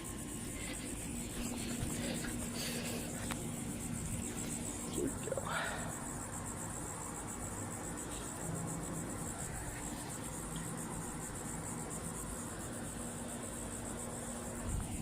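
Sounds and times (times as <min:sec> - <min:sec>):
crickets trilling: 0:00.0 - 0:15.0
faint low hum: 0:00.0 - 0:15.0.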